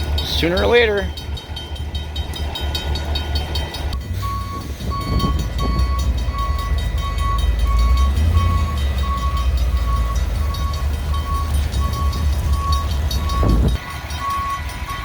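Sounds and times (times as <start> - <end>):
diesel locomotives idling: 0.0 - 15.0
steady beeping: 0.0 - 15.0.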